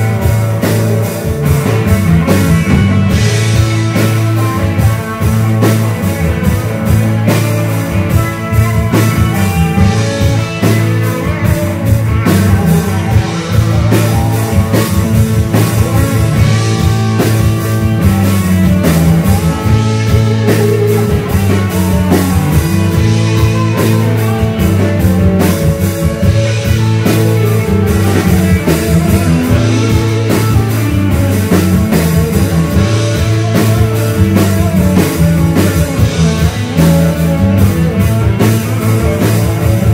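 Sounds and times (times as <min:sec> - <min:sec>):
drum kit steady beat: 0:00.0 - 0:39.9
electric guitars: 0:00.0 - 0:39.9.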